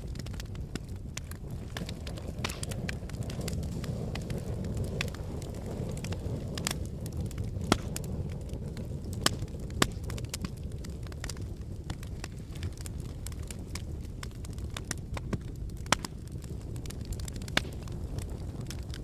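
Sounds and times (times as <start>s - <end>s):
fire crackles and pops: 0.0s - 19.0s
fire rushing flame: 0.0s - 19.0s.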